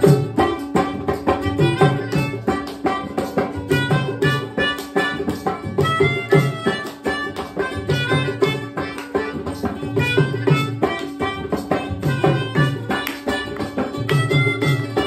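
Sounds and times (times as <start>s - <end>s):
hand drum beat: 0.0s - 15.0s
melodica folk melody: 0.0s - 15.0s.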